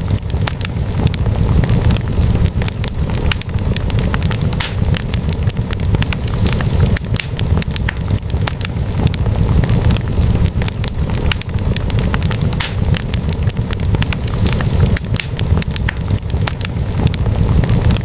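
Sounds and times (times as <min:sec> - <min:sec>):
burning logs crackling and popping: 0:00.0 - 0:18.0
low rumble of flames: 0:00.0 - 0:18.0.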